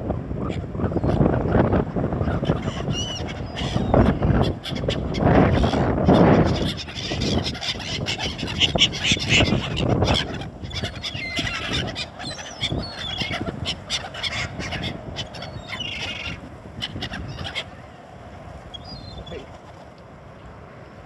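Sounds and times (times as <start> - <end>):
gulls calling: 0.3 - 20.0.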